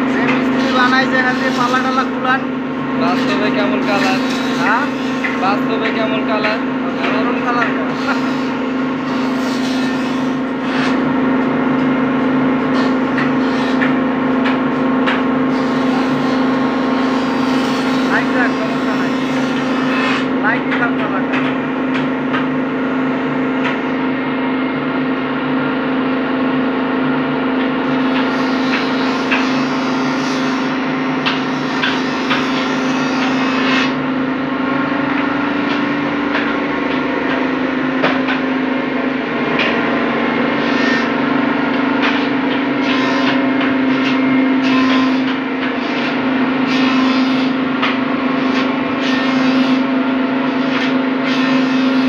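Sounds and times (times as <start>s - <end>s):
machine humming: 0.0s - 52.0s.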